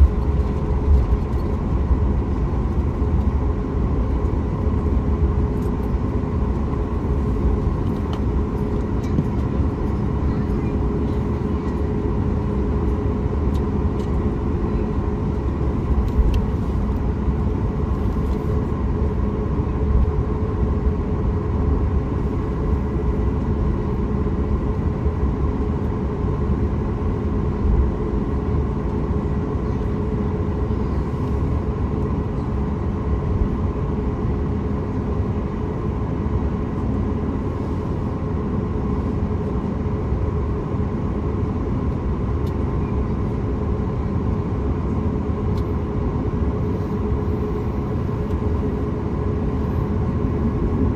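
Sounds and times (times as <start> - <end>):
aircraft cabin low rumble: 0.0 - 50.9.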